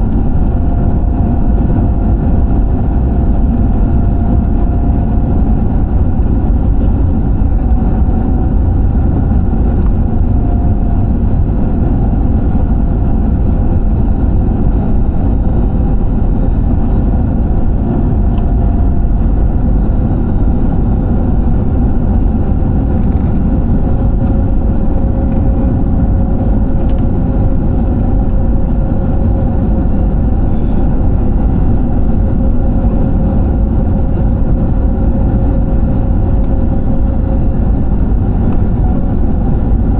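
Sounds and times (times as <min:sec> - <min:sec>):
airliner engines roaring in cabin: 0:00.0 - 0:39.9
faint hum: 0:00.0 - 0:39.9.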